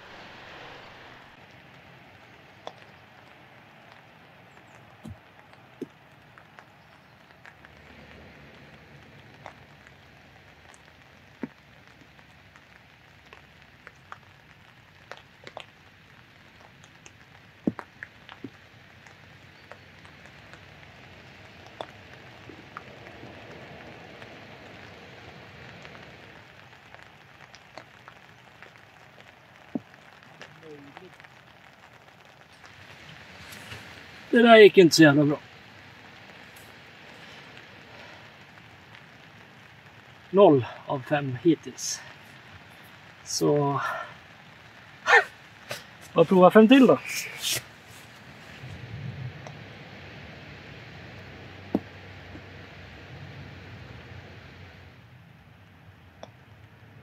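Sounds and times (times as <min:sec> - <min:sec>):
faint outdoor background noise: 0:00.0 - 0:57.0.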